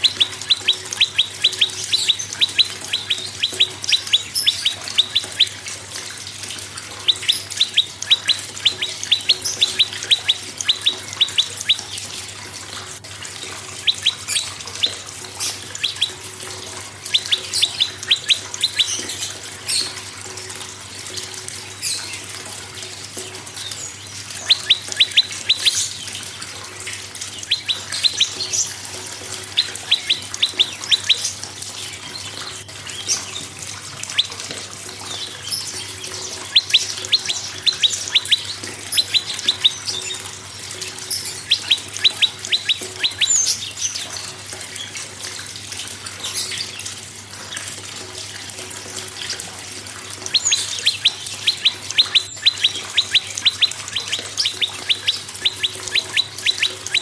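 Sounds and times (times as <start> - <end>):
bird calling in sharp high ticks: 0.0 - 57.0.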